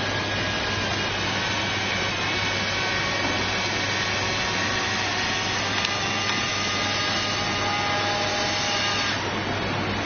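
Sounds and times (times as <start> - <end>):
electric fan motors whirring: 0.0 - 10.0.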